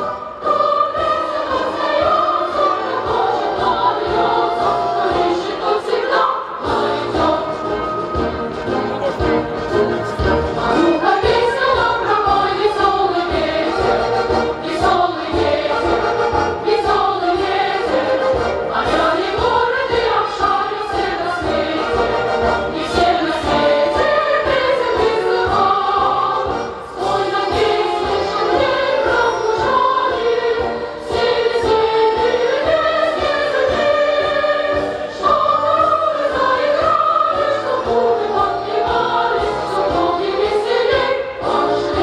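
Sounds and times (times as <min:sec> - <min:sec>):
choir singing: 0:00.0 - 0:42.0.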